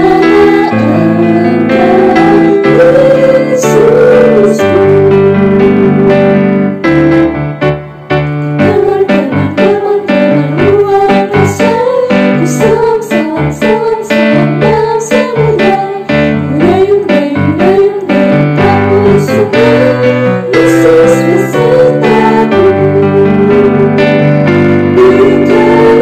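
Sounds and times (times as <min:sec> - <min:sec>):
person singing: 0:00.0 - 0:06.8, 0:08.6 - 0:26.0
keyboard chords: 0:00.0 - 0:26.0.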